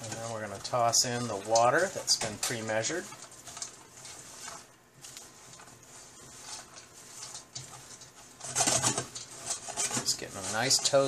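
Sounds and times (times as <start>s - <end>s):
spatula scraping saucepan: 0.0s - 11.0s.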